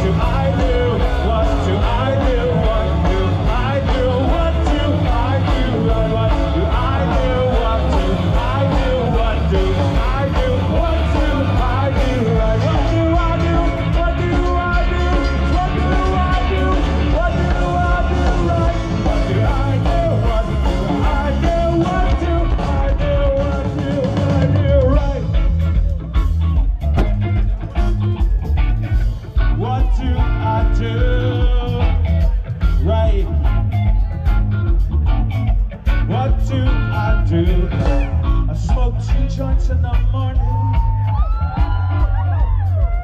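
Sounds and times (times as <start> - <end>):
live rock band playing loudly: 0.0 - 43.0.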